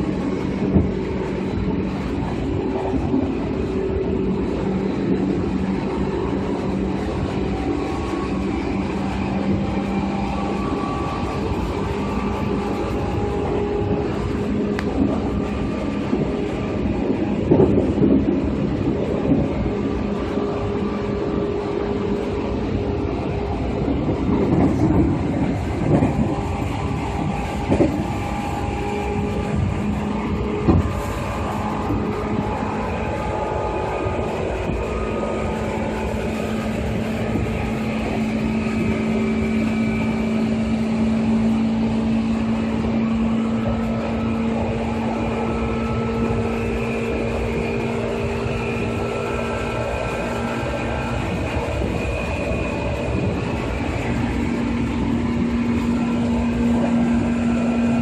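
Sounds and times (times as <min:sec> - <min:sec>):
electric train motor hum: 0:00.0 - 0:58.0
wheels rumbling on rails: 0:00.0 - 0:58.0.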